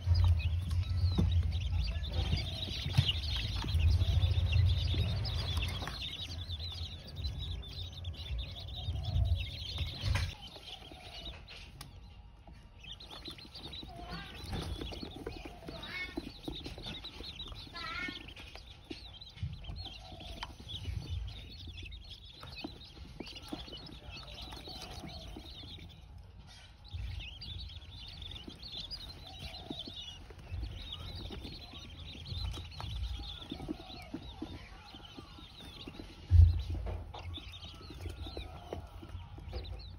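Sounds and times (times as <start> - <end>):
low bumps: 0.0 - 39.9
pecking and scratching in bedding: 0.0 - 39.9
quail peeping and chirping: 0.0 - 39.9.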